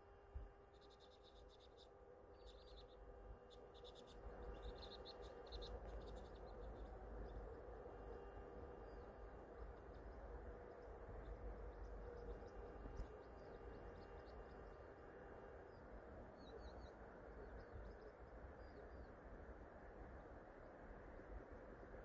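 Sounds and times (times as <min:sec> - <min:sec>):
low steady rumble: 0:00.0 - 0:22.0
small birds chirping: 0:00.2 - 0:20.8.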